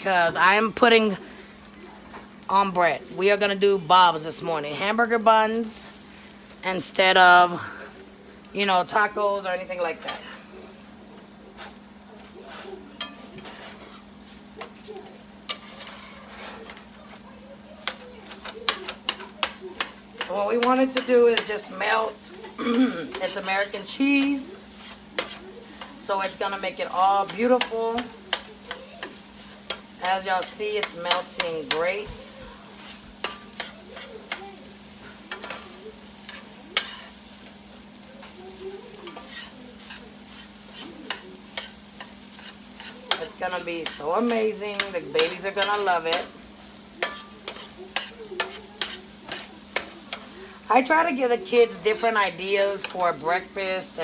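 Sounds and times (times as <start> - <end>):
food sizzling: 0.0 - 54.0
spatula scraping a skillet: 8.9 - 54.0.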